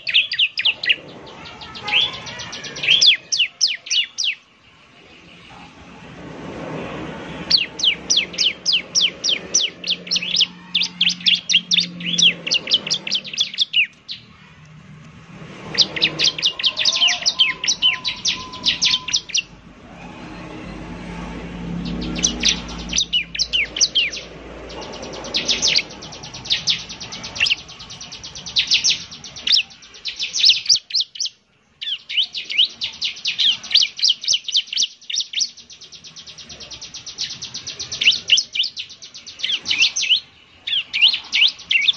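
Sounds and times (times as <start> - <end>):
bird singing high chirps: 0.0 - 4.6, 7.3 - 14.5, 15.6 - 41.9.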